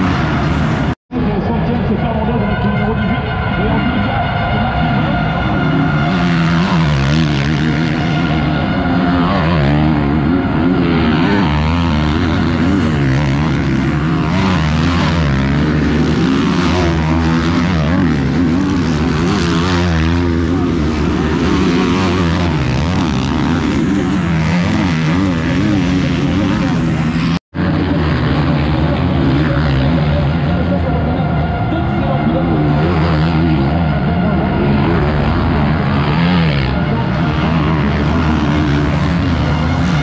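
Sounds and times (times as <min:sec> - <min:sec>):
motocross bikes revving: 0:00.0 - 0:40.0.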